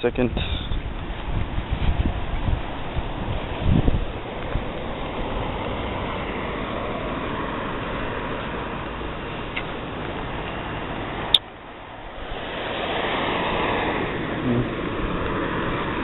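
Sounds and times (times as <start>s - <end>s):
street traffic noise: 0.0s - 16.0s
wind buffeting microphone: 0.0s - 16.0s
vehicle passing: 0.8s - 16.0s.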